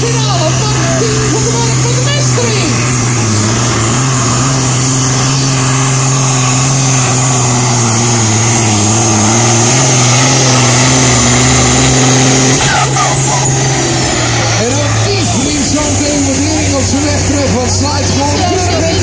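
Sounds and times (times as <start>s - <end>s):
pulling tractor engine droning: 0.0s - 19.0s.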